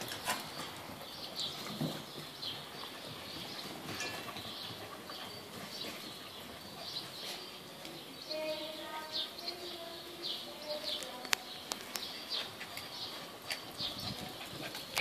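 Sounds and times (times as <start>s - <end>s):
puppy paws on tiles: 0.0s - 15.0s.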